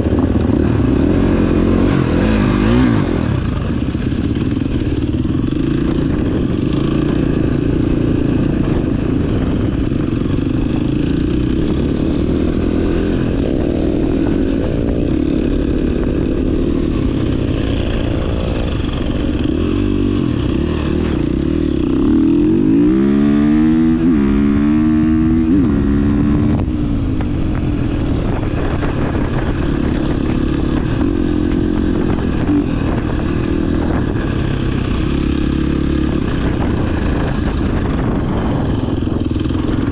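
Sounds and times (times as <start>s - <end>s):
dirt bike engine revving: 0.0s - 26.7s, 27.3s - 39.9s.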